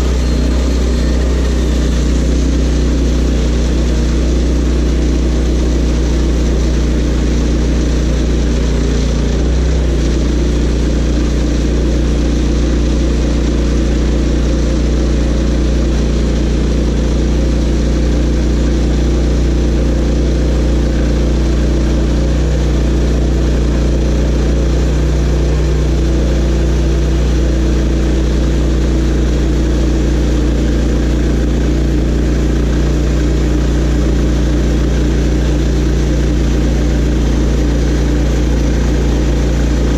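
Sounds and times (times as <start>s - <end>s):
gasoline engine running steadily: 0.0s - 39.9s.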